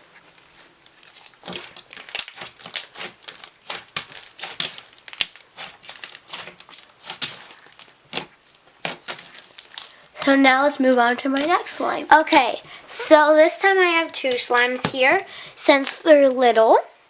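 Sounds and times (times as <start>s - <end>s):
crackling popping clicks: 0.8s - 16.4s.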